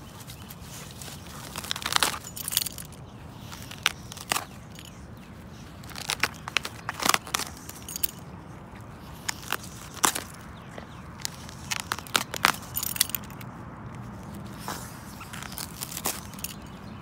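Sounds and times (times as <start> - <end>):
dog chewing dry branch: 0.0 - 17.0.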